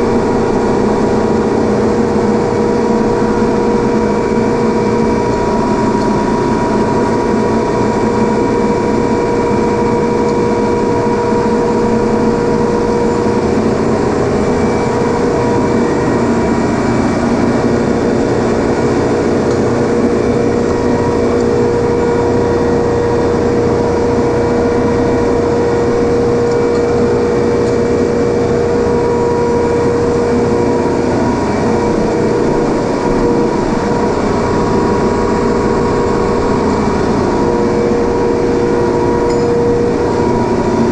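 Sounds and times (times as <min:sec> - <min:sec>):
machinery droning: 0:00.0 - 0:40.9.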